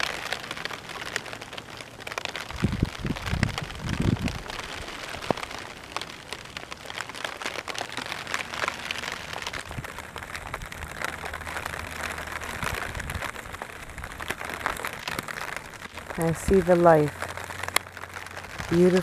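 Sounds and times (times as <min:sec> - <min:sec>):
rain falling steadily: 0:00.0 - 0:19.0.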